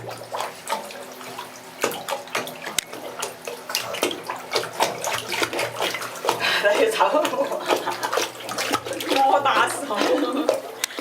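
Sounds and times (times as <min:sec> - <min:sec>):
dog splashing in bathtub water: 0:00.0 - 0:11.0.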